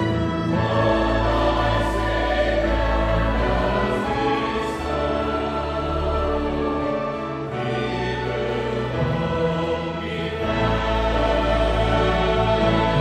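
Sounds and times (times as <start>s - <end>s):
choir singing a hymn: 0.0s - 13.0s
string orchestra: 0.0s - 13.0s.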